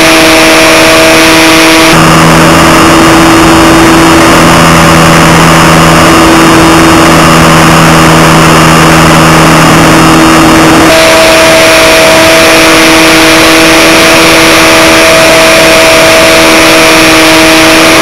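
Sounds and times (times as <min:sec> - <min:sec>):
electric plane motor and propeller: 0:00.0 - 0:18.0.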